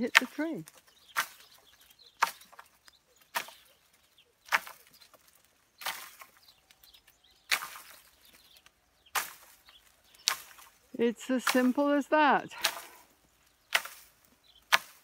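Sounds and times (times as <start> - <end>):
pole whacking tree branches: 0.0 - 3.8, 4.4 - 15.0
leaves rustling: 0.0 - 15.0.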